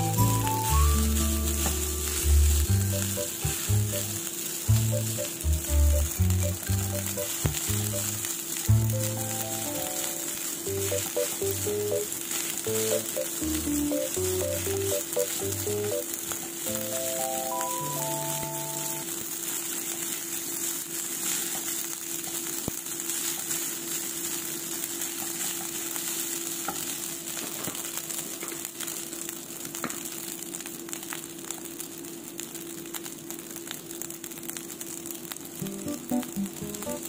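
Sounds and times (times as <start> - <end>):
rice sizzling in frying pan: 0.0 - 37.0.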